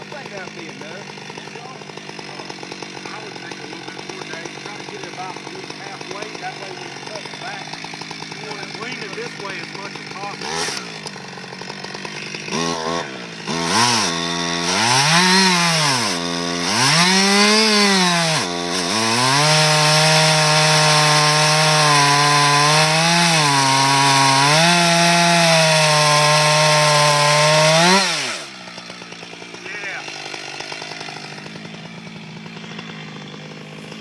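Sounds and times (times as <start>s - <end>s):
chainsaw revving and cutting wood: 0.0s - 34.0s.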